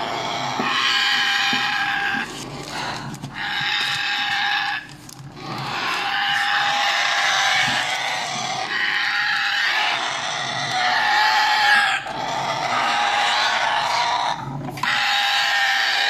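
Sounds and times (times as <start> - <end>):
parrot chicks calling: 0.0 - 16.0.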